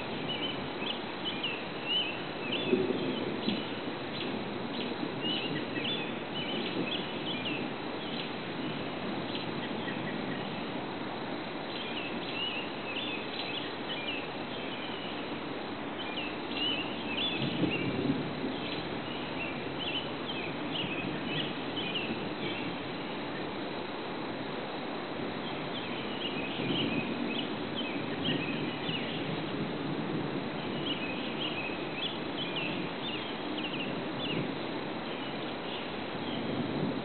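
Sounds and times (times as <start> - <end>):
high chirps of birds or insects: 0.0 - 37.0.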